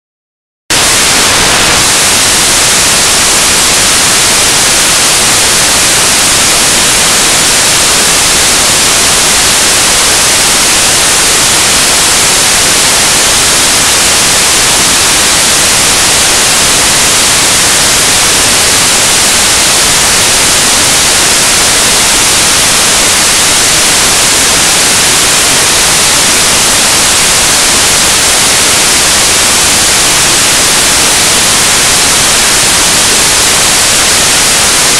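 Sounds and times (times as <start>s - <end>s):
static hiss: 0.7s - 34.9s.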